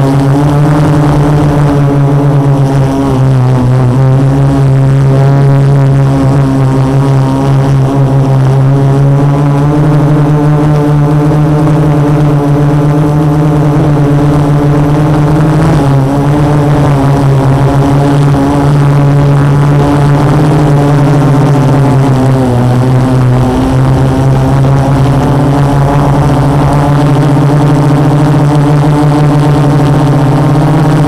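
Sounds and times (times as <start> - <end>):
quadcopter droning hum: 0.0 - 31.0.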